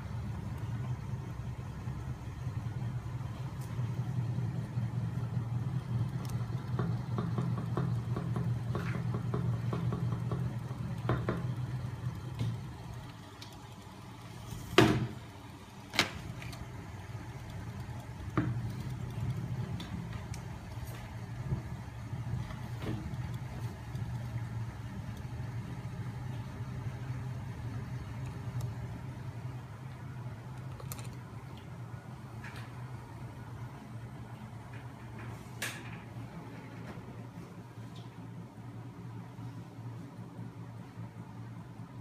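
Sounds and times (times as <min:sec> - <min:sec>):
machine low mechanical hum: 0:00.0 - 0:42.0.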